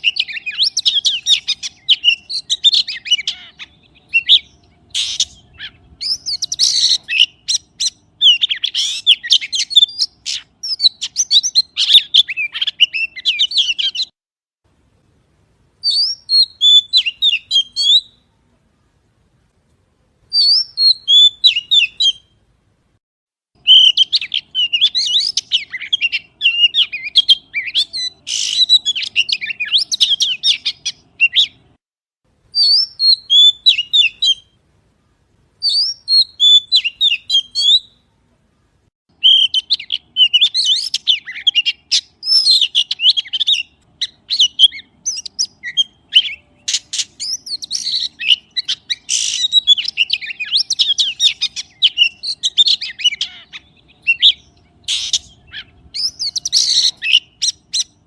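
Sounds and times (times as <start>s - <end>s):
magpie chirping and whistling: 0.0s - 14.1s, 15.8s - 18.2s, 20.3s - 22.3s, 23.6s - 31.6s, 32.6s - 34.6s, 35.6s - 38.0s, 39.2s - 58.0s.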